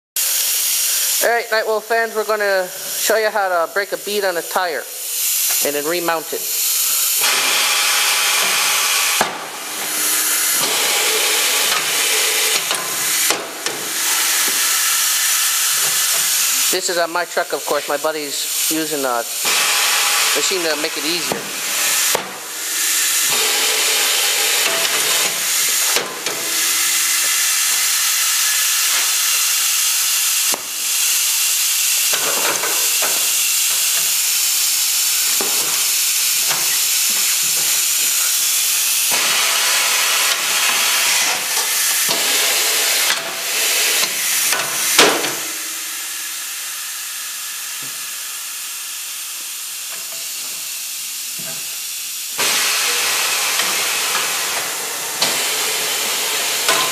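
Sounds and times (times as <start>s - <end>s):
air hissing from tire machine: 0.2s - 3.2s, 4.8s - 56.9s.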